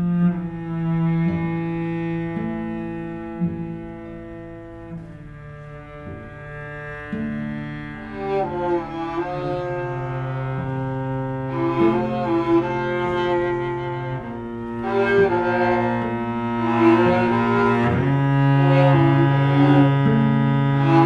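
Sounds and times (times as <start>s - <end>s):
slow cello music: 0.0s - 21.0s.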